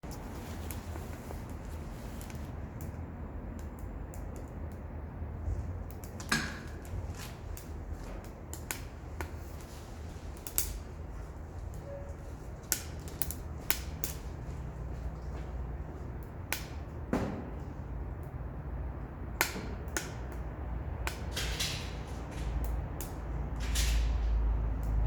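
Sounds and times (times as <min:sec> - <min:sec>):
low steady fire rumble: 0:00.0 - 0:25.0
wood fire crackling: 0:00.0 - 0:25.0.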